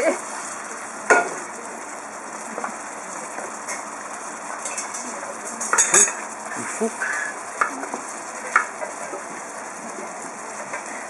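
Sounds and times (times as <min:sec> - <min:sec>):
syrup sizzling in a frying pan: 0:00.0 - 0:11.0.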